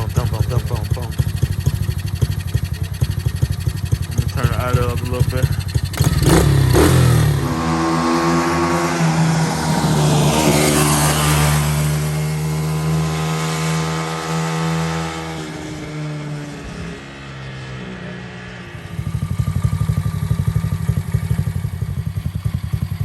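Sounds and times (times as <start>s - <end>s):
engine running at fast idle: 0.0s - 14.8s, 18.4s - 23.0s.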